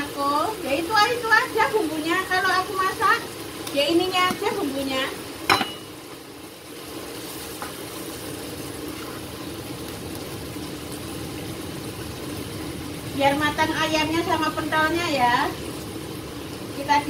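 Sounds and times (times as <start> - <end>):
broth simmering: 0.0 - 17.0.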